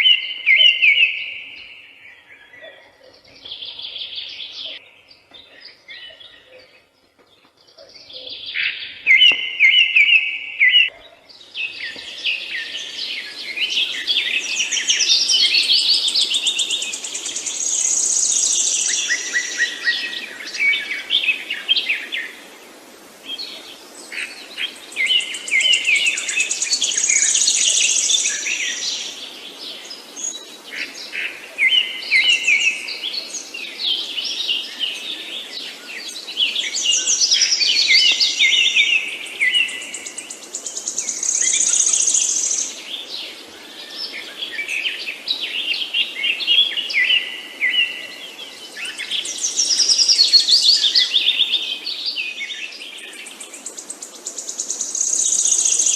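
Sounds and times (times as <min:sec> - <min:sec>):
faint background hiss: 0:00.0 - 0:55.9
songbirds singing: 0:00.0 - 0:55.9.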